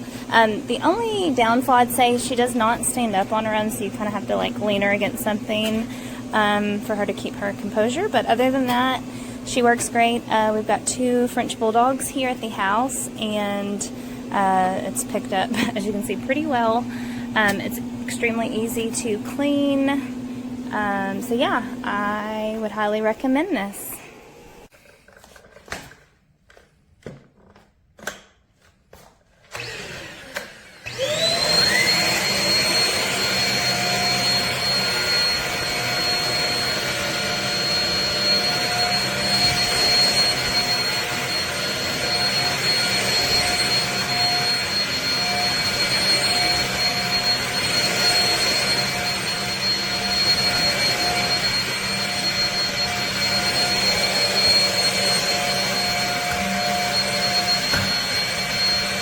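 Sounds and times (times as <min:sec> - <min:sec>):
stick vacuum motor whine: 0:00.0 - 0:22.5, 0:29.5 - 0:59.0.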